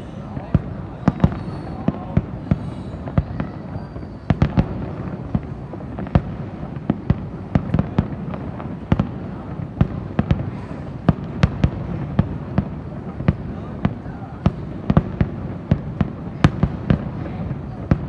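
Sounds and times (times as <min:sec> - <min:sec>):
fireworks bangs: 0:00.0 - 0:18.0
low rumble of distant fireworks: 0:00.0 - 0:18.0.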